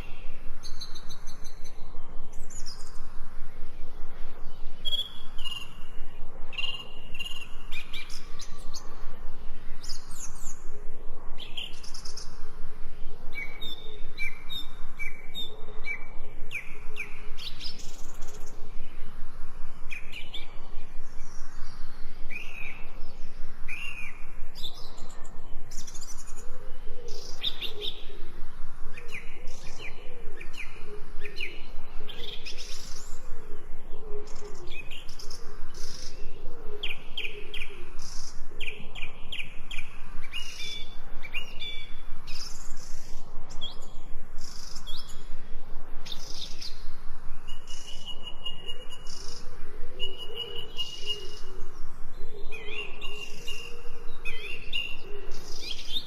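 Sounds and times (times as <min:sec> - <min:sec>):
birds chirping and whistling: 0:00.0 - 0:10.7, 0:13.2 - 0:19.0, 0:19.8 - 0:45.4, 0:46.0 - 0:56.0
low warbling bird calls: 0:00.0 - 0:56.0.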